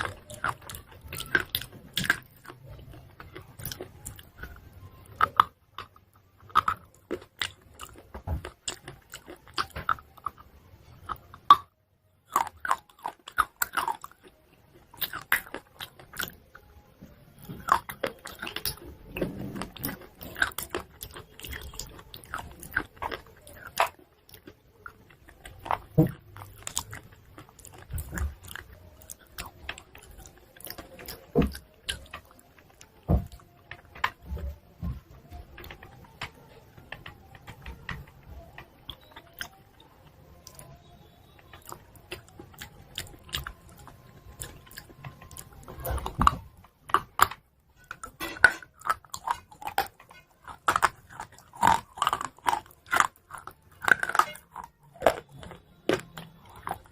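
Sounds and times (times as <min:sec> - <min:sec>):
chewing: 0:00.0 - 0:56.9.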